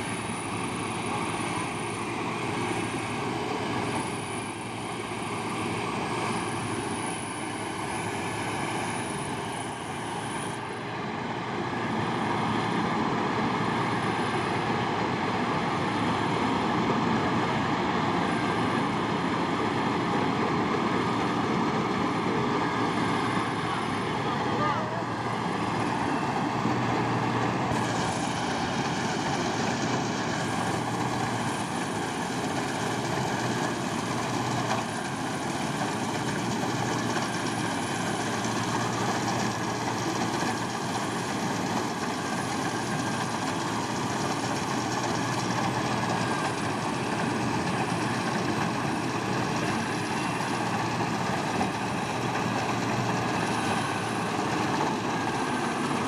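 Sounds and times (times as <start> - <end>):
farm machine engine running: 0.0 - 56.0.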